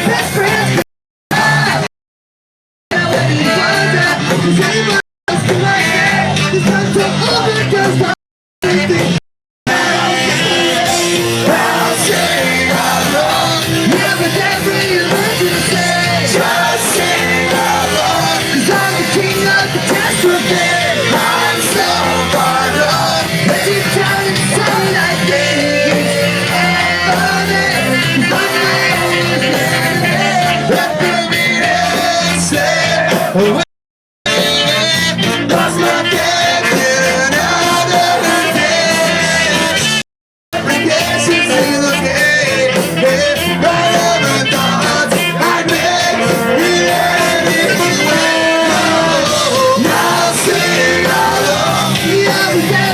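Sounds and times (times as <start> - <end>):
live ska punk band: 0.0 - 1.9, 2.9 - 33.6, 34.2 - 52.9
person singing: 2.9 - 33.6, 40.6 - 52.9.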